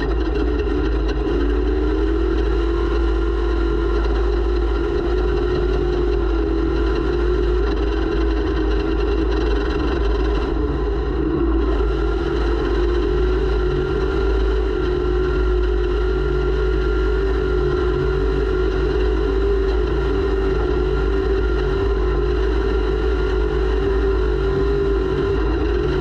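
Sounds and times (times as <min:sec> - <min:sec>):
low rumble of wind: 0:00.0 - 0:26.0
race vehicle engine running: 0:00.0 - 0:26.0.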